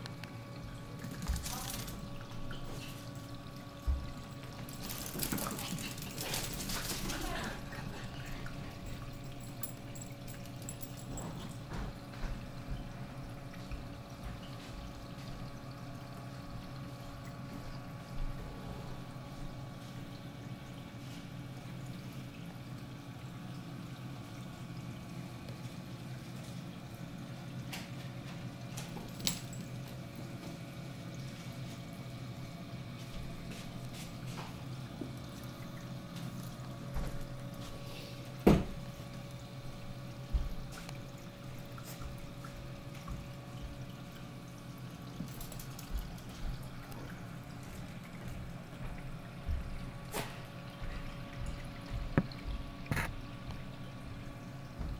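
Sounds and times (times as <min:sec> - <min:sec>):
low steady hum: 0:00.0 - 0:54.9
water pouring and trickling: 0:00.0 - 0:54.9.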